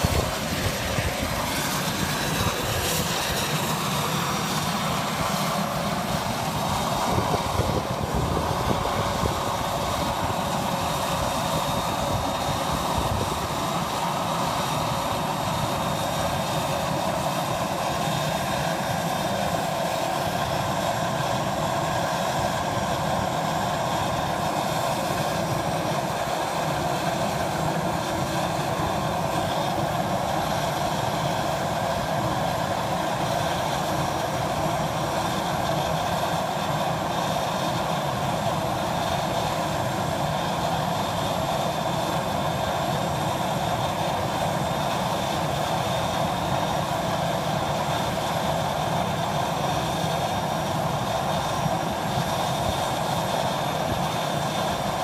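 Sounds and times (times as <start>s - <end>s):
turboprop engine idling: 0.0s - 55.0s.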